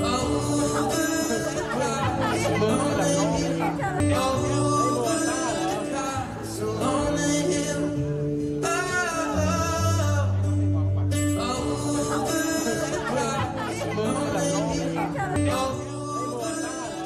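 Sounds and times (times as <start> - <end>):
guitar and band accompaniment: 0.0 - 17.0
man singing live: 0.0 - 17.0.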